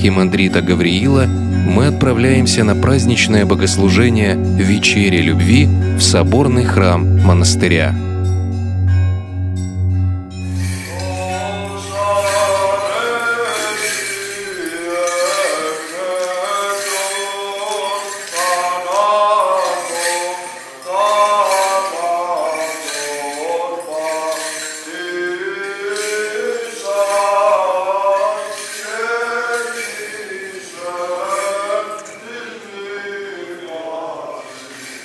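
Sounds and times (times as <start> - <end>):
man chanting a hymn: 0.0 - 8.1, 10.8 - 34.8
censer bells jingling: 0.0 - 35.0.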